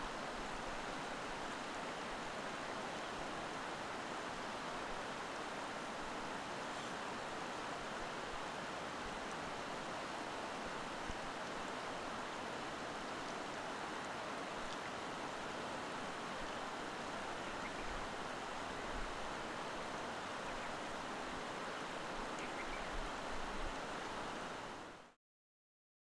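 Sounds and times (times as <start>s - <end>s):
flowing water rushing: 0.0s - 25.2s.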